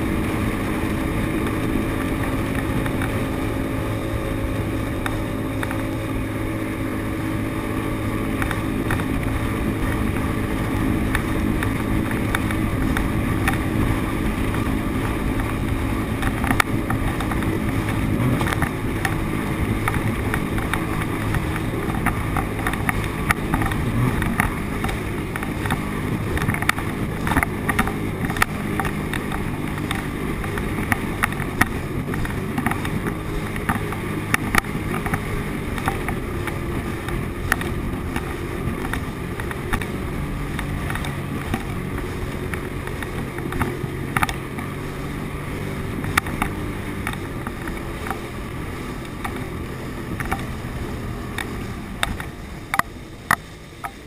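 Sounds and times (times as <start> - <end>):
hull slapping water: 0.0 - 54.0
watercraft engine running: 0.0 - 54.0.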